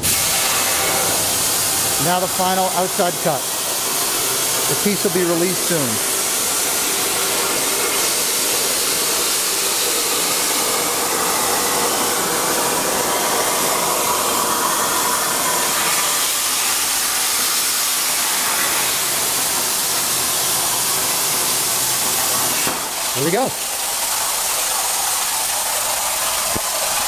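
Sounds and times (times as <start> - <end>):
plasma torch arc hissing: 0.0 - 23.4.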